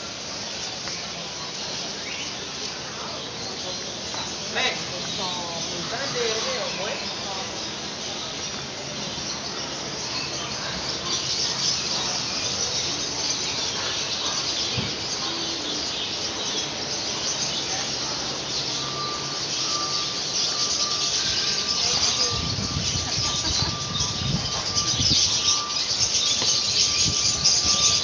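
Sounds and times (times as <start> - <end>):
caged birds chirping and squawking: 0.0 - 28.0.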